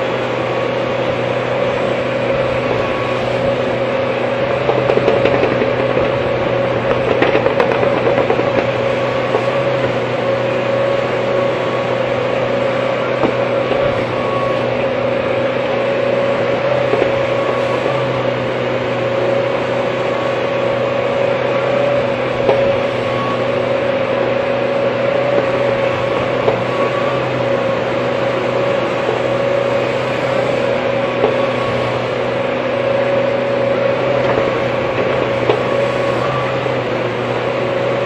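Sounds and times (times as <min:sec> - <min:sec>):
excavator engine humming: 0:00.0 - 0:38.0.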